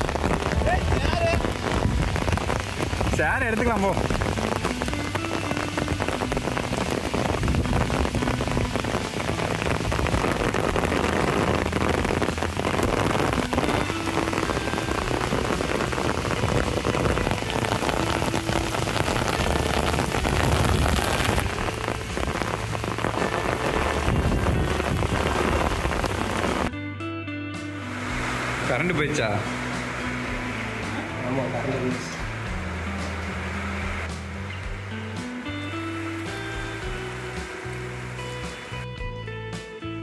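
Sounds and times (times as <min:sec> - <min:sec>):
rain falling steadily: 0:00.0 - 0:26.7, 0:27.7 - 0:39.8.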